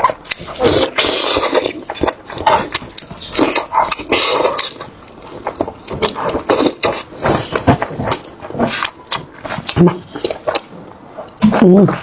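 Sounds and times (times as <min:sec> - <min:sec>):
lip smacking: 0:00.0 - 0:11.4
wet chewing: 0:00.0 - 0:11.8
slurping: 0:00.2 - 0:12.0.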